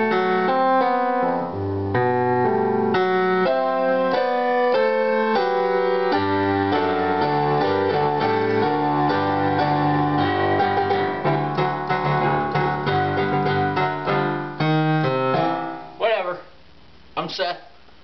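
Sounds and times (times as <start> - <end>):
electronic keyboard piano playing: 0.0 - 16.4.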